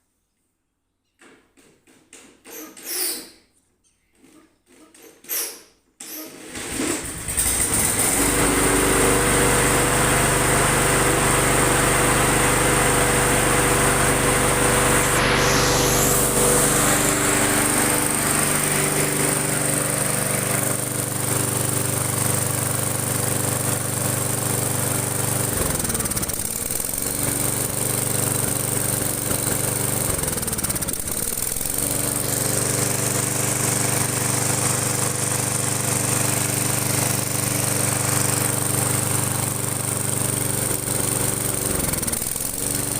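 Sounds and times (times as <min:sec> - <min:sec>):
lawn mower engine running: 0:06.7 - 0:42.9.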